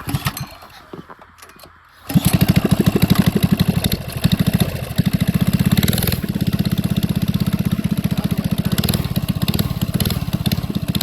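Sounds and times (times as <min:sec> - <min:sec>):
small engine starting and running: 0:00.0 - 0:00.8, 0:02.0 - 0:11.0.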